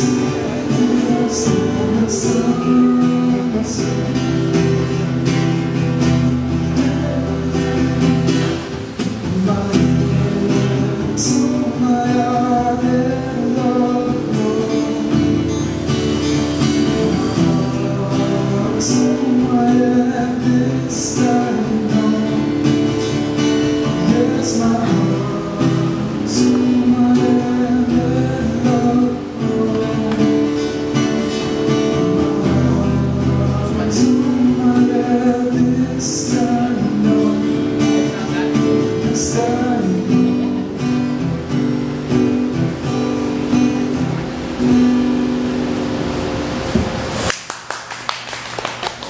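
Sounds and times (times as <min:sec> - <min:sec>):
man singing: 0:00.0 - 0:41.2
acoustic guitar strumming: 0:00.0 - 0:47.3.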